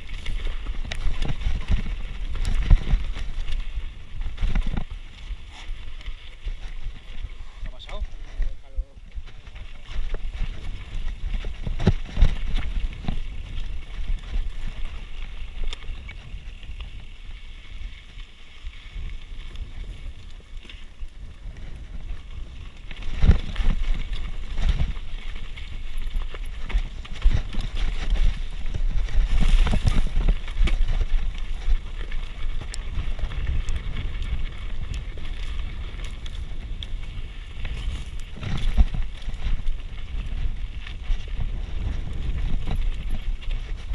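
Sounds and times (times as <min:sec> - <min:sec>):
bike rattling on rocks: 0:00.0 - 0:43.9
tyres over dirt and stones: 0:00.0 - 0:43.9.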